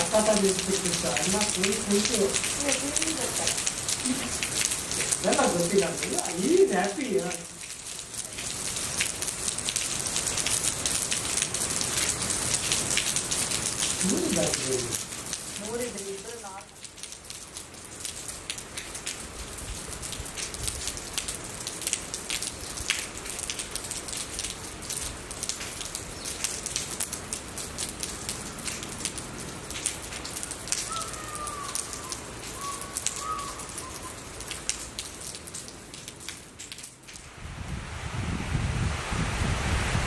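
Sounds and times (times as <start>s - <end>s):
steady rain with raindrop hits: 0.0s - 40.0s.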